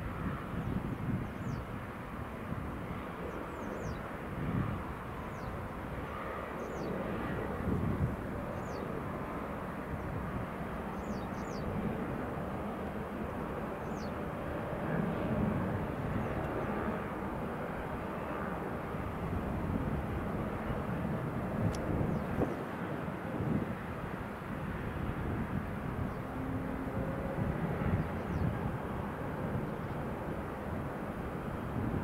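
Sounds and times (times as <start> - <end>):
jet engines roaring: 1.7 - 32.0.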